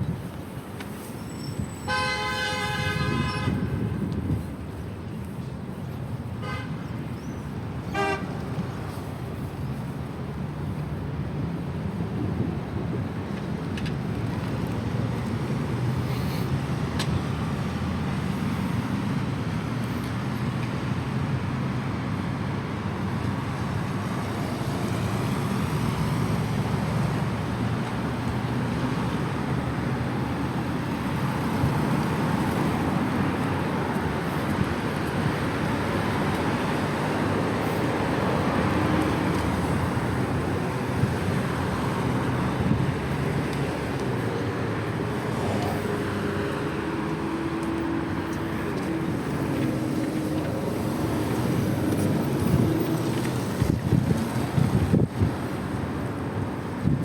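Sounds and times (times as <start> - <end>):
road traffic rushing past: 0.0 - 57.0.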